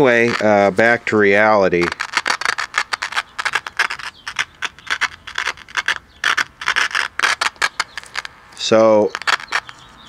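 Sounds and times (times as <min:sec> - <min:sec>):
scratchy crackling: 0:00.0 - 0:10.0.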